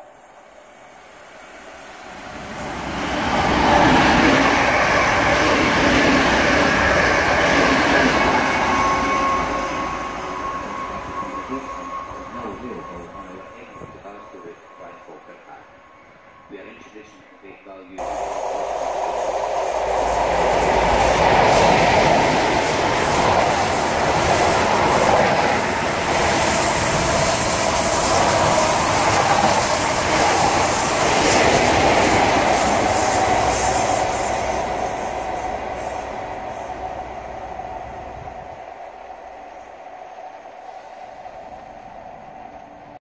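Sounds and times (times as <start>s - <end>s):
diesel train engine passing: 0.0s - 43.0s.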